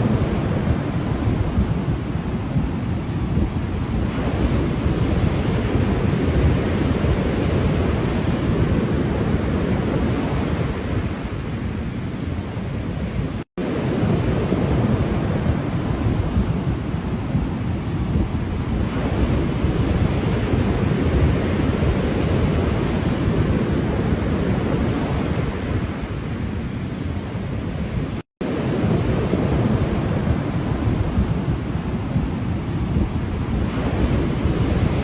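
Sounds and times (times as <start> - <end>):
ocean waves: 0.0 - 35.0
wind buffeting microphone: 0.0 - 35.0.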